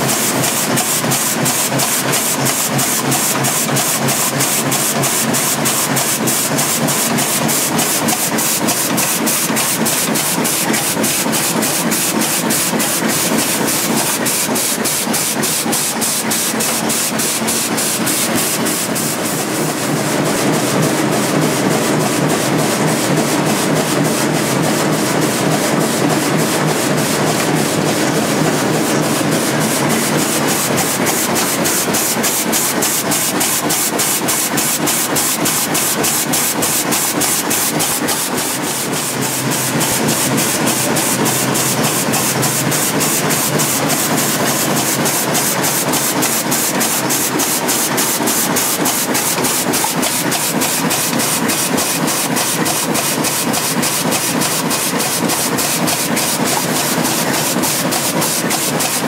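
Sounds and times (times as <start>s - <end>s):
fast even machine clicking: 0.0s - 19.5s, 27.3s - 59.0s
printing machine hum and hiss: 0.0s - 59.0s.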